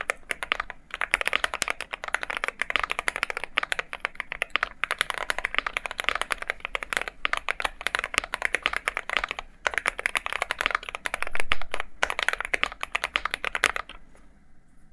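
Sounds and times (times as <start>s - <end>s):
mechanical keyboard key clacks: 0.0s - 14.0s.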